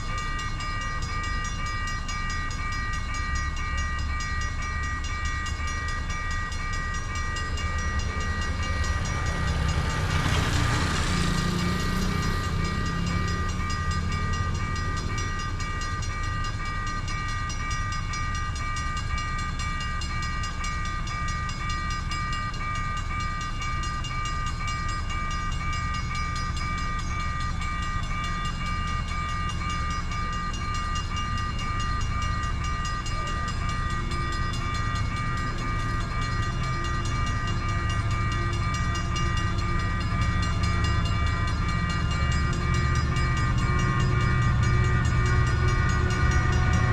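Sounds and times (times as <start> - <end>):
crossing warning signal tone: 0.0 - 46.9
train rumbling past: 0.0 - 46.9.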